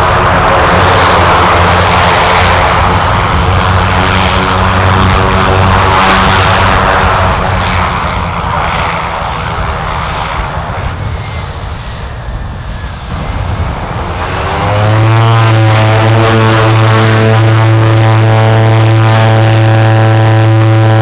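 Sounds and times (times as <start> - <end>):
aircraft engine noise: 0.0 - 21.0
low steady drone with tones: 0.0 - 21.0.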